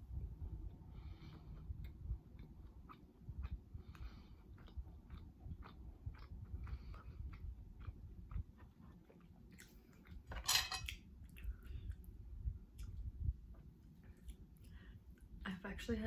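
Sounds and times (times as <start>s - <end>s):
person chewing food: 0.1s - 15.4s.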